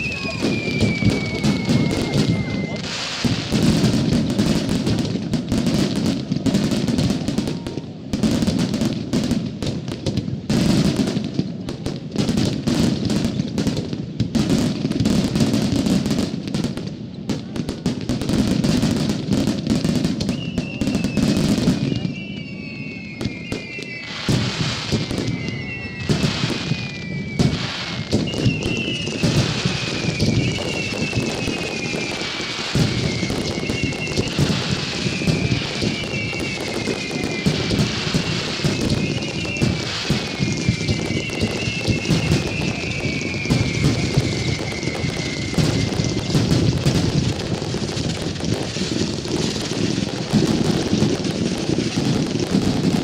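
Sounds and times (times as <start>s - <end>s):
fireworks whistles sliding down: 0.0s - 11.4s, 12.2s - 53.0s
fireworks bursting and crackling: 0.0s - 53.0s.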